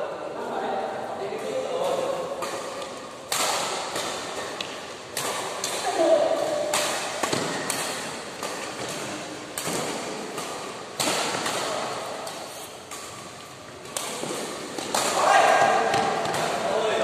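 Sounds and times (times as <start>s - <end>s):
rackets hitting shuttlecock: 1.4s - 17.0s.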